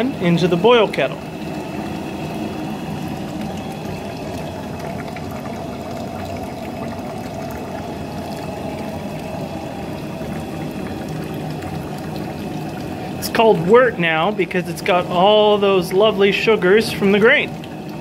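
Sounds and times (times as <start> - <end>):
liquid pouring into a pot: 0.0 - 18.0.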